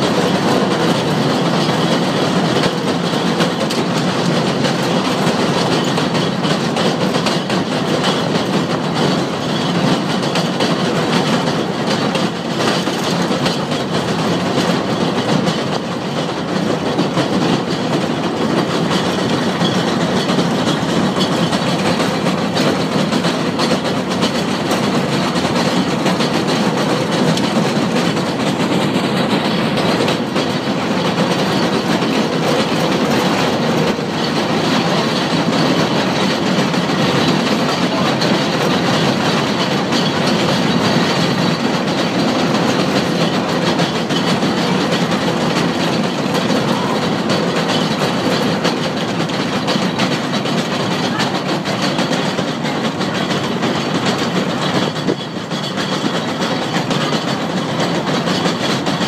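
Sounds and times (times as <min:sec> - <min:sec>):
railcar wheels rumbling and rattling: 0:00.0 - 0:59.0.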